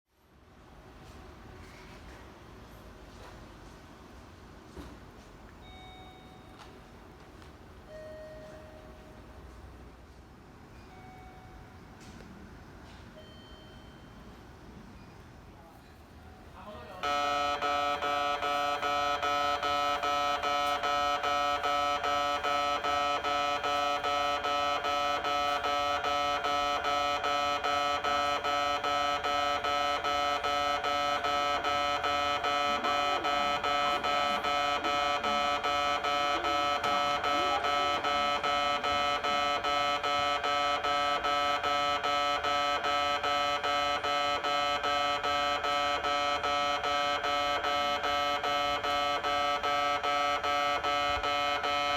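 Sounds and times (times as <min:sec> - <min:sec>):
level crossing warning bell: 0:05.6 - 0:07.2, 0:07.8 - 0:09.9, 0:10.7 - 0:12.2, 0:12.8 - 0:14.7, 0:16.2 - 0:51.9.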